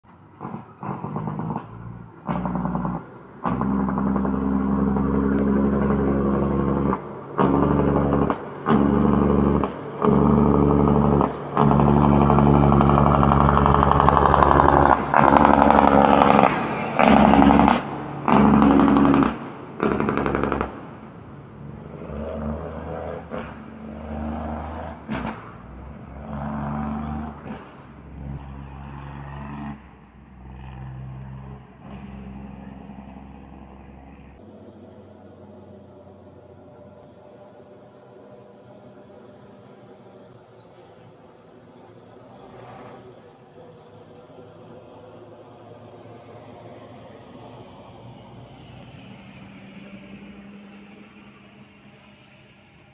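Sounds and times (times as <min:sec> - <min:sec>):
diesel truck engine: 0:00.0 - 0:52.9.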